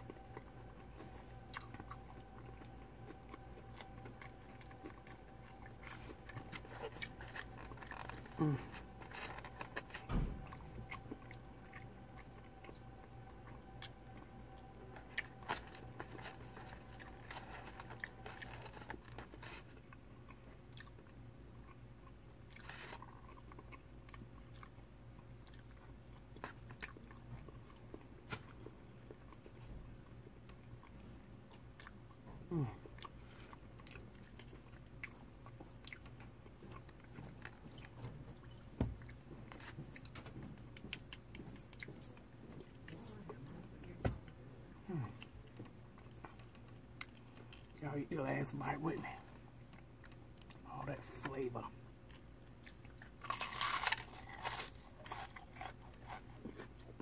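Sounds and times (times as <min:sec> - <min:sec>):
chewing crispy fried fish: 0:00.0 - 0:57.0.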